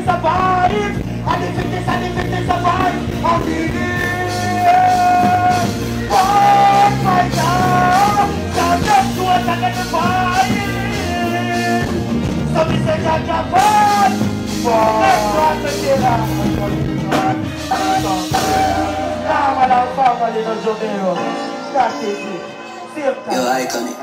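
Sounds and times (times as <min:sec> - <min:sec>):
man singing into microphone: 0:00.0 - 0:22.5
live band music: 0:00.0 - 0:24.0.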